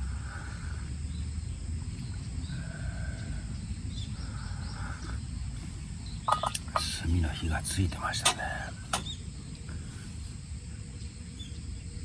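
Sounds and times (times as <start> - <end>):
faint bird calls: 0.0 - 12.0
steady low rumble: 0.0 - 12.0.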